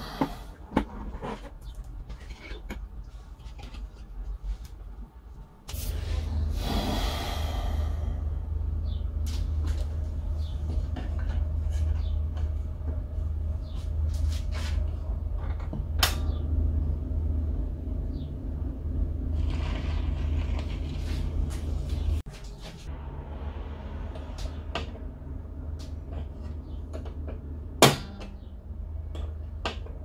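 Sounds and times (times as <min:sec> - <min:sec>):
low mains hum: 0:00.0 - 0:30.0.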